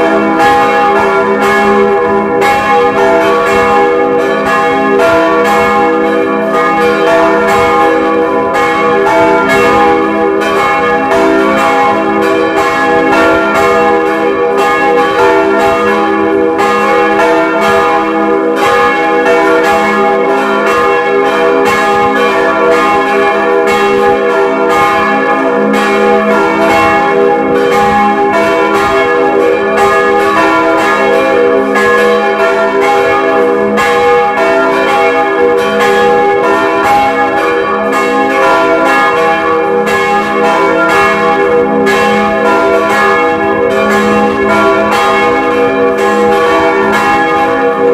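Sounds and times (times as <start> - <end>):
church bells pealing: 0.0 - 47.9.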